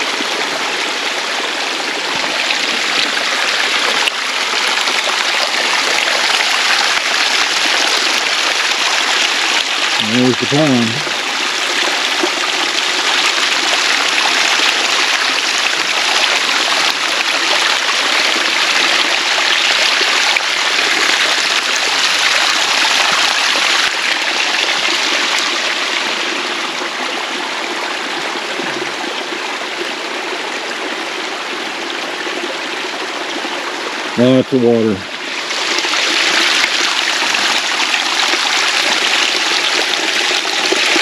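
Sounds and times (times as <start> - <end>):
water rushing through ditch: 0.0 - 41.0.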